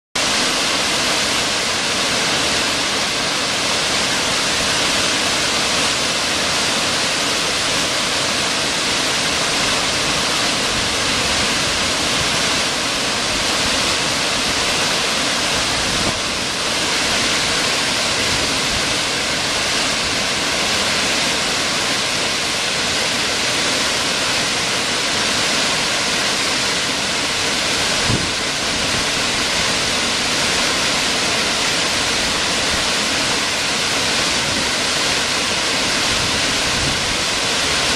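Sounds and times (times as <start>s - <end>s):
waterfall rushing: 0.2s - 37.9s.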